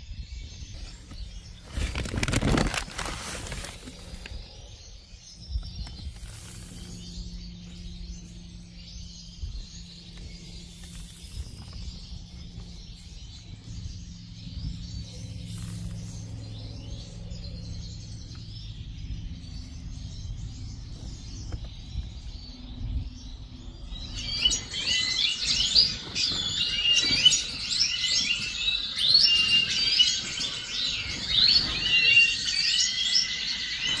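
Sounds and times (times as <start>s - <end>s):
goldfinch singing: 3.7s - 34.0s.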